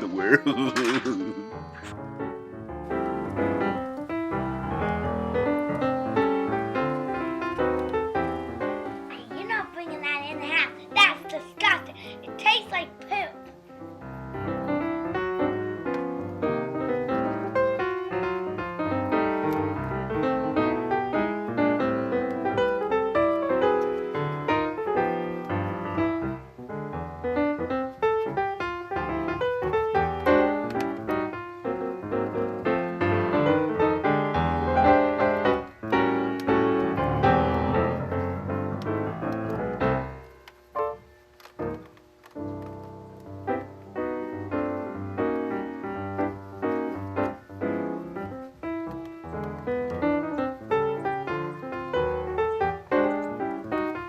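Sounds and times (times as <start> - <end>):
piano music with brisk runs: 0.0 - 54.0.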